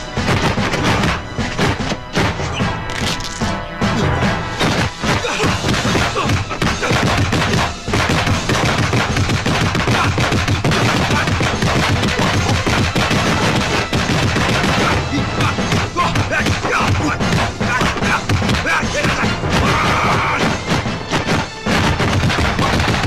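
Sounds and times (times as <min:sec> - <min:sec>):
punch and block impacts: 0:00.0 - 0:02.6, 0:04.0 - 0:23.0.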